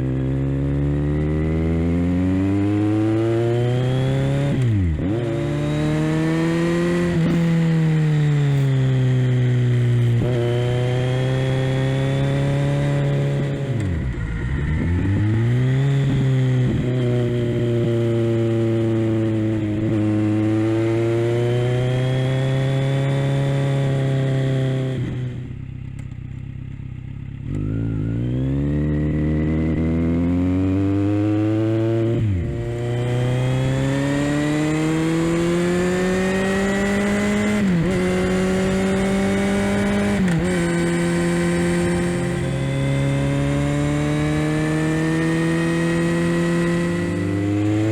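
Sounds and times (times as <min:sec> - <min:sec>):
motorcycle engine shifting gears: 0:00.0 - 0:47.9.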